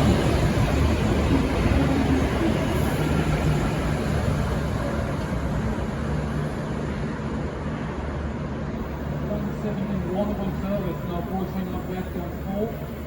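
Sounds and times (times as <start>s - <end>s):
train engine drone and rumble: 0.0s - 13.0s.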